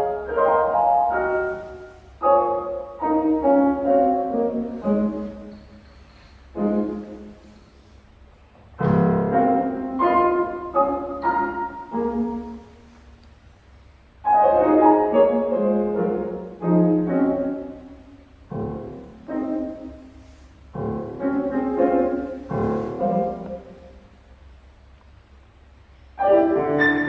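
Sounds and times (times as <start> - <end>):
solo piano chords: 0.0 - 13.2, 14.0 - 24.5, 26.2 - 27.0.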